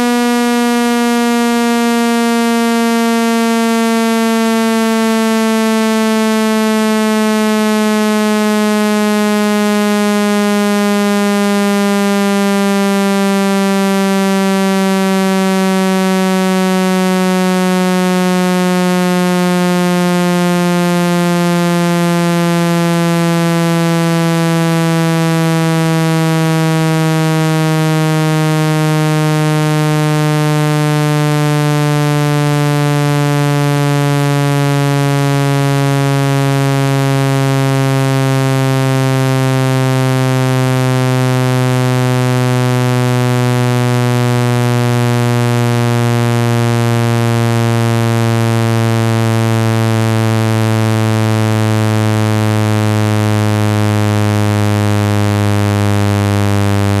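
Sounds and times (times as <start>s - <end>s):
synthesized low buzzing tone: 0.0s - 57.0s.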